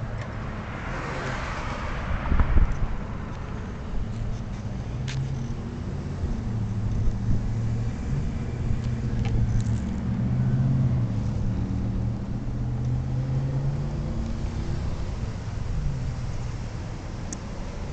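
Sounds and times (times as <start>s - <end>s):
road and wind noise: 0.0s - 17.9s
vehicle engine humming: 0.0s - 17.9s.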